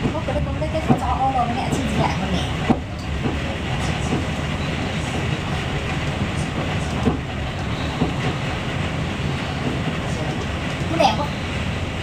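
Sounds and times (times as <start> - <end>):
track knocks: 0.0 - 12.0
train wheels rumbling on rails: 0.0 - 12.0.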